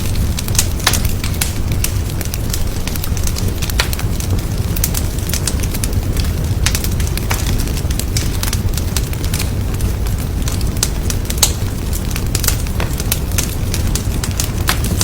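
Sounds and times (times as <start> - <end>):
fireplace fire crackling: 0.0 - 15.0
flames rumbling low: 0.0 - 15.0.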